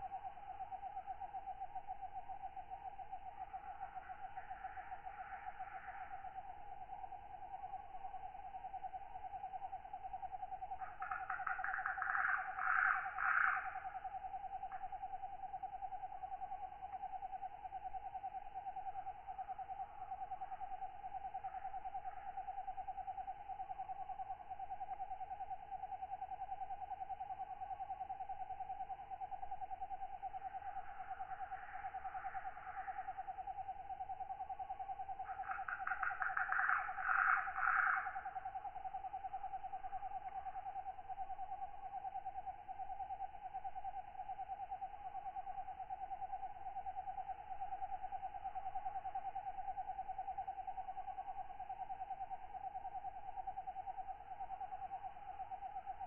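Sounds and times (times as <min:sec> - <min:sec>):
raspy insect calls: 0:00.0 - 0:56.0.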